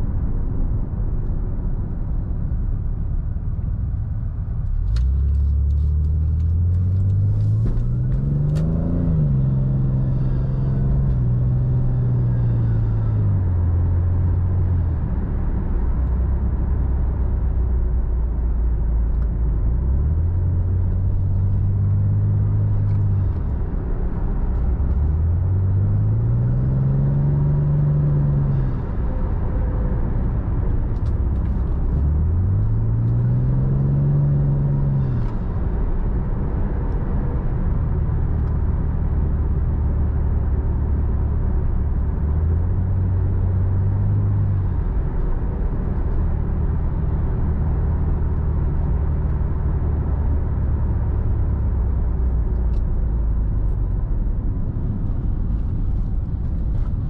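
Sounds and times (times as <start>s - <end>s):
car engine accelerating: 3.5s - 57.0s.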